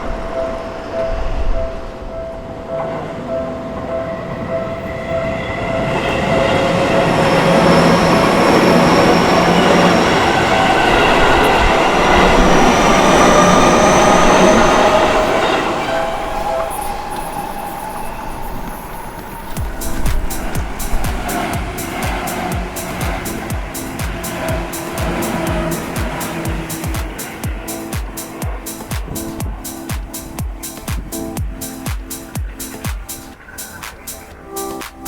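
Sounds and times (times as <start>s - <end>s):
electric train passing: 0.0s - 35.0s.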